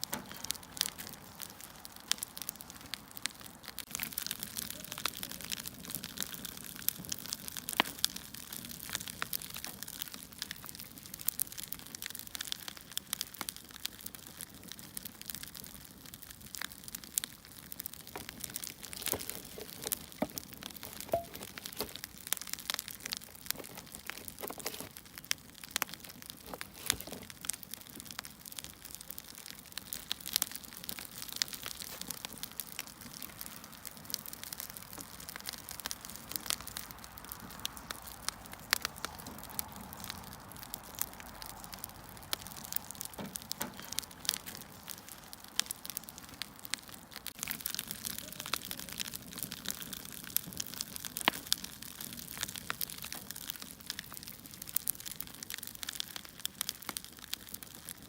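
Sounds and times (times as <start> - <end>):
soft steady fire hiss: 0.0 - 58.0
wood fire crackling and popping: 0.0 - 58.0.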